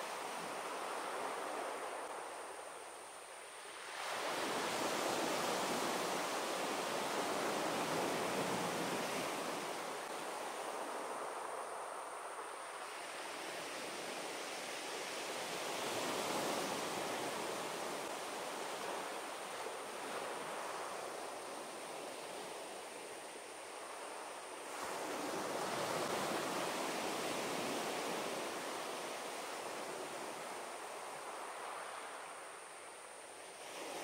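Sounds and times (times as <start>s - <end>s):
sea waves washing onto beach: 0.0s - 34.0s.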